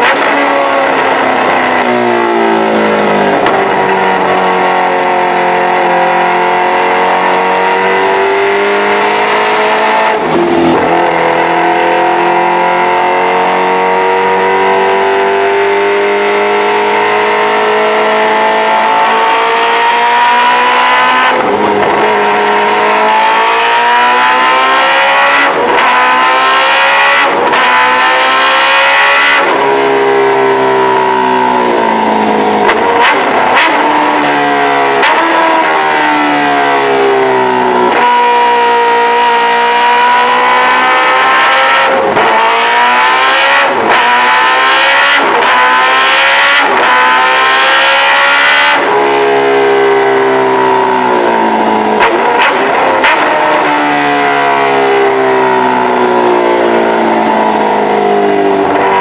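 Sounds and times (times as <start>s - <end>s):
motorcycle engine revving under load: 0.0s - 59.0s.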